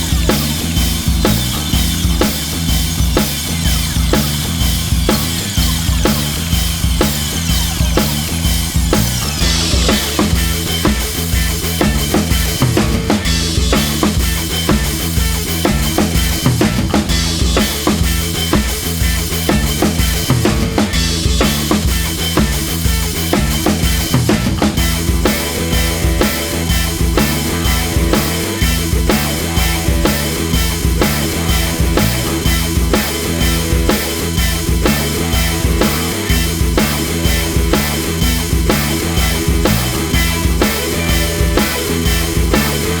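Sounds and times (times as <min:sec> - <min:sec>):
rock music with drum beat: 0:00.0 - 0:43.0.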